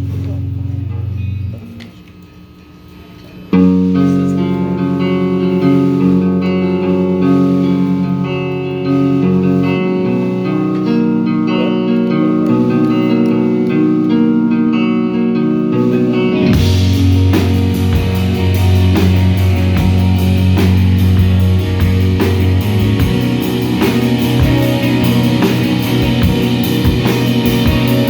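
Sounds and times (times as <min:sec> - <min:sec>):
bass guitar: 0:00.0 - 0:02.0, 0:03.5 - 0:28.0
electric guitar chords: 0:00.0 - 0:28.0.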